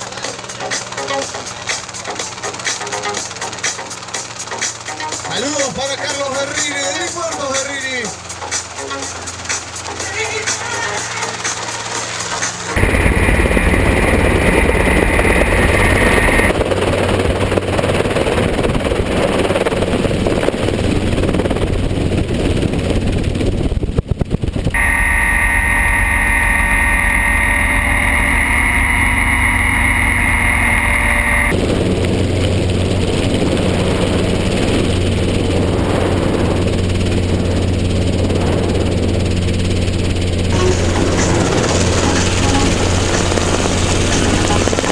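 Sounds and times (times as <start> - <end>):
helicopter engine and rotor: 0.0 - 44.9
high steady whine: 7.7 - 18.8, 19.5 - 44.9.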